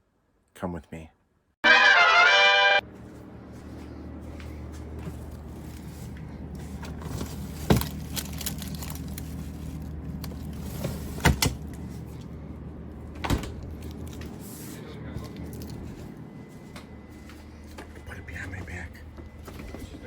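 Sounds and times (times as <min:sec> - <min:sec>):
low mechanical hum: 0:02.8 - 0:20.0.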